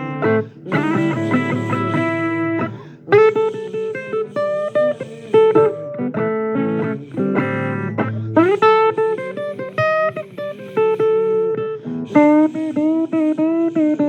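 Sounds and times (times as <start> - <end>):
blues guitar playing: 0.0 - 14.0.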